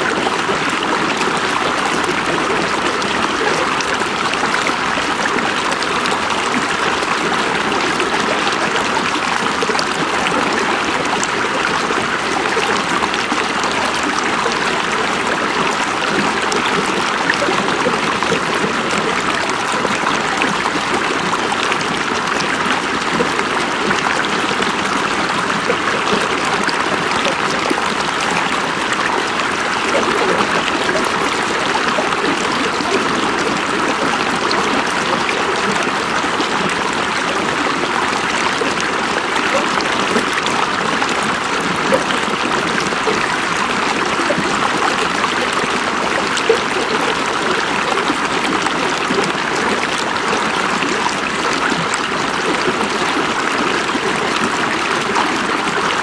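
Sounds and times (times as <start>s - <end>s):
river water splashing over rocks: 0.0s - 56.0s.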